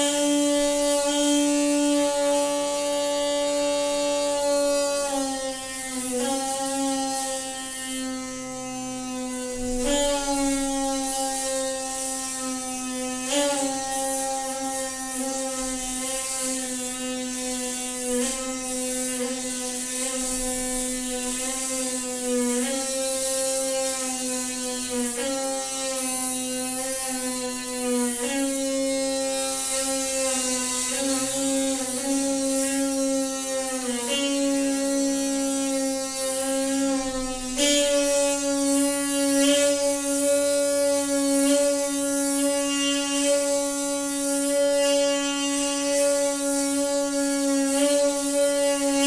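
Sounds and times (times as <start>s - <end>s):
water pipe buzzing drone: 0.0s - 49.0s.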